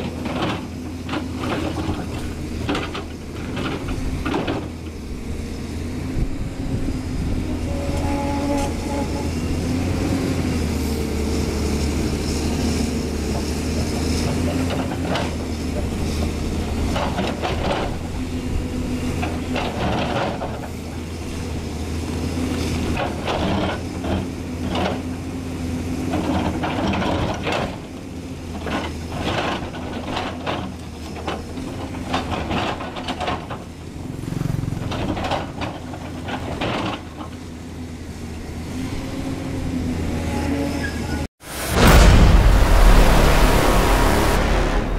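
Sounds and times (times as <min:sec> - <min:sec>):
excavator diesel engine running: 0:00.0 - 0:40.4, 0:41.5 - 0:44.9.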